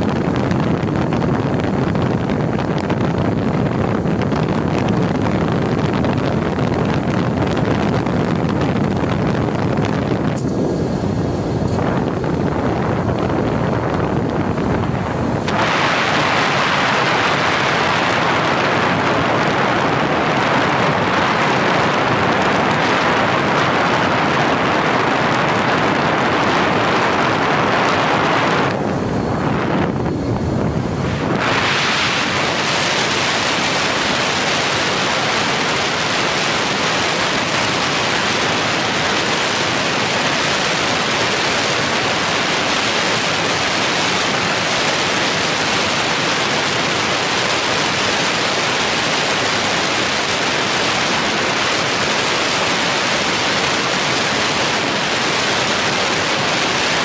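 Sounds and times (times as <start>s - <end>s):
wind rushing on microphone: 0.0s - 57.0s.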